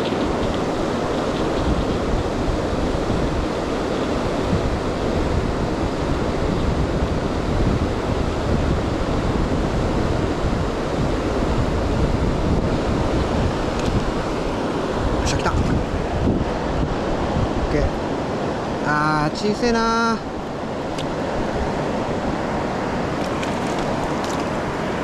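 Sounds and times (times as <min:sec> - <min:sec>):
river water rushing: 0:00.0 - 0:08.4, 0:09.0 - 0:25.0.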